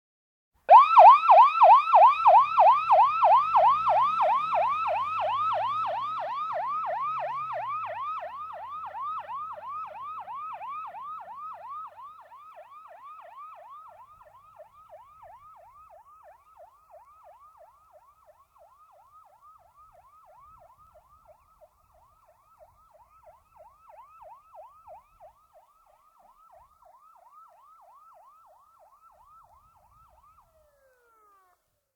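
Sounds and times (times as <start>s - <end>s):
electronic siren yelp: 0.7s - 31.6s.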